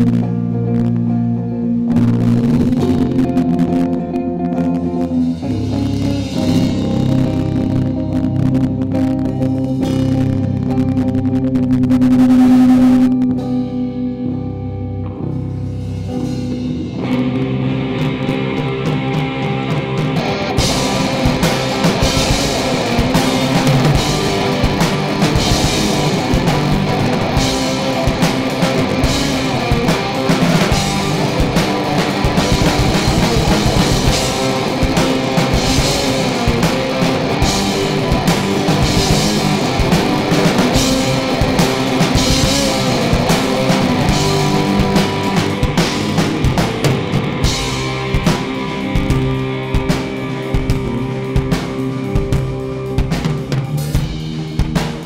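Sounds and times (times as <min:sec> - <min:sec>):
drum kit beat with cymbals: 0:00.0 - 0:14.4, 0:15.2 - 0:55.0
guitar chords: 0:00.0 - 0:55.0.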